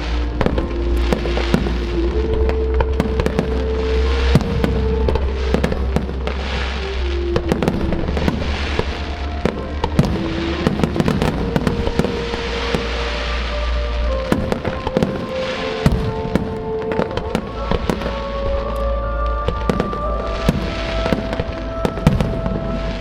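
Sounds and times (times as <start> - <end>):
fireworks bursting and crackling: 0.0 - 23.0
music over loudspeakers: 0.0 - 23.0.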